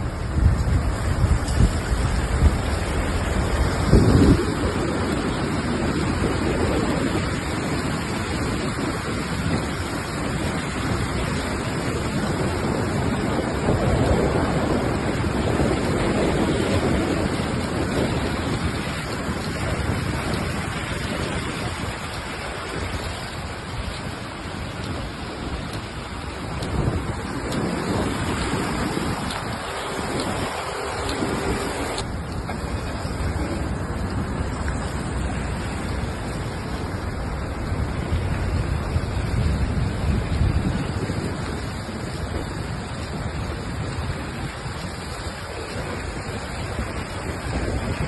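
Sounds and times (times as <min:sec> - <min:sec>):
river water rushing: 0:00.0 - 0:48.0
wind noise on microphone: 0:00.0 - 0:48.0.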